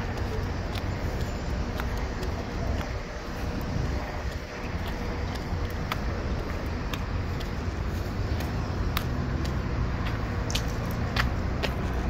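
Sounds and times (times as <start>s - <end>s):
footsteps on paving: 0.0s - 12.0s
road traffic rumble: 0.0s - 12.0s.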